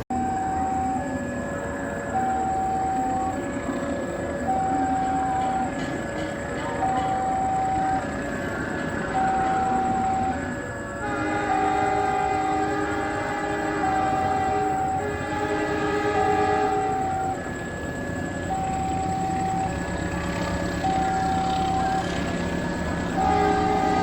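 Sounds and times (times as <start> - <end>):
train passing: 0.0 - 24.0
two-note train signal: 0.0 - 24.0.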